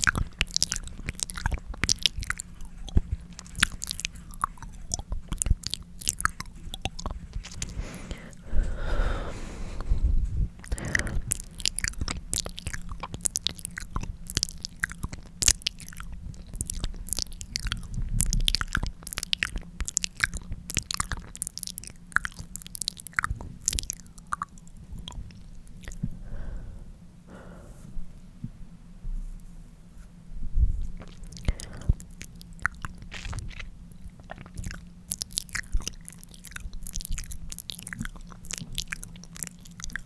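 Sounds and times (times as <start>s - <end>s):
lip-licking mouth sounds: 0.0s - 26.7s, 30.8s - 40.0s.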